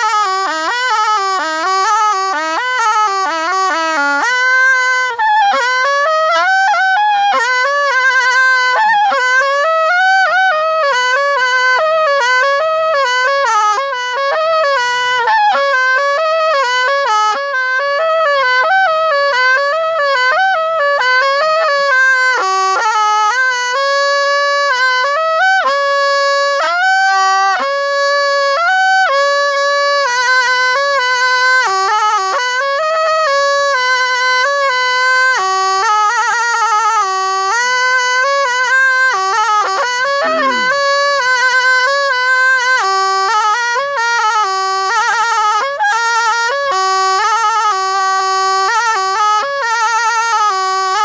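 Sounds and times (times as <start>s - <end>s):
reed pipe melody: 0.0s - 51.0s.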